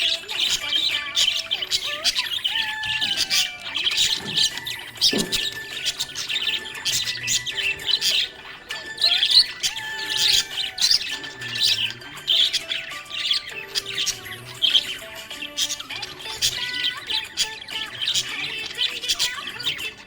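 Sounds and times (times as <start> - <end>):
budgerigars chirping: 0.0 - 20.0.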